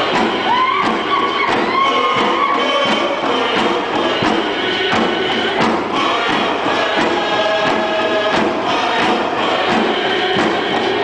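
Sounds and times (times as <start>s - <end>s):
group chanting in unison: 0.0s - 11.0s
hand drum beats: 0.0s - 11.0s.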